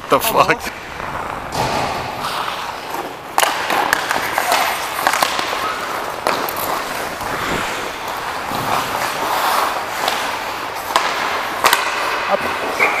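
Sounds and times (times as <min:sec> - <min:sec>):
skate blades gliding on ice: 0:00.0 - 0:13.0.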